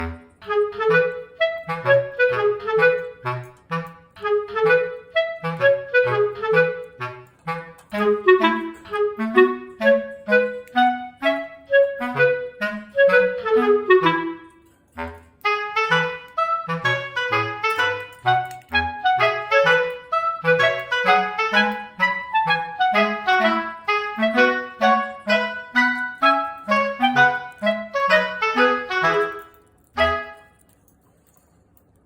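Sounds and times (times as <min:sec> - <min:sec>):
lively clarinet tune with bass: 0:00.0 - 0:30.5.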